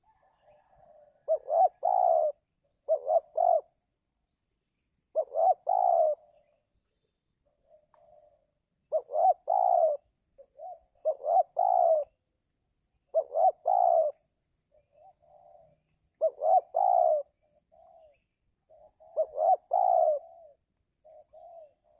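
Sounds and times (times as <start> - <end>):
dove cooing: 0.0 - 3.9, 5.1 - 6.5, 7.5 - 12.2, 13.1 - 21.9
small birds chirping: 0.7 - 21.9.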